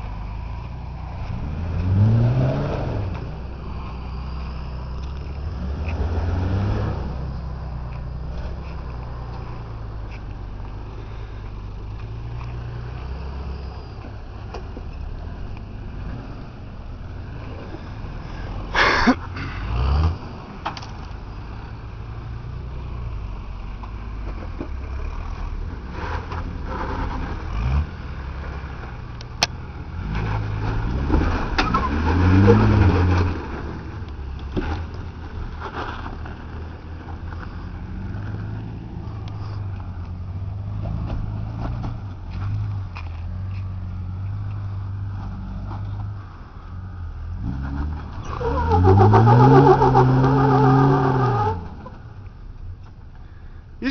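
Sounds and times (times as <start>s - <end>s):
engine pulling at low revs: 0.0s - 53.9s.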